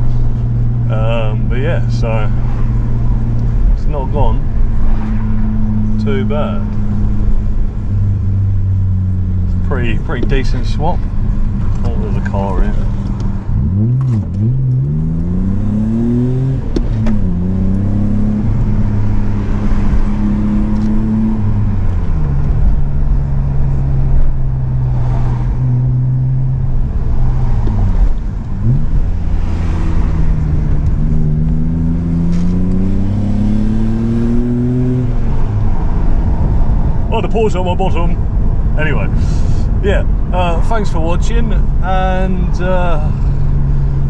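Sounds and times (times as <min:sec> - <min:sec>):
car engine revving through gears: 0:00.0 - 0:37.0.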